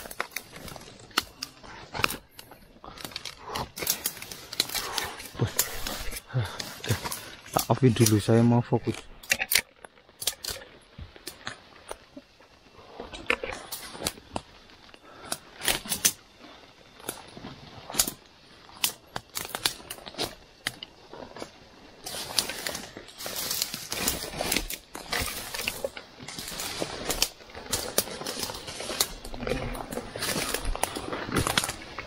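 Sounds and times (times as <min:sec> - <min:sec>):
leaves and twigs rustling and snapping: 0:00.0 - 0:32.0.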